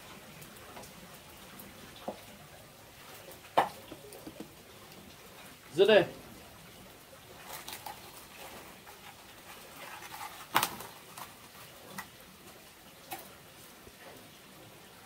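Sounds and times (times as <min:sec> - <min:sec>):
cooking fire crackling and popping: 0:00.0 - 0:15.0.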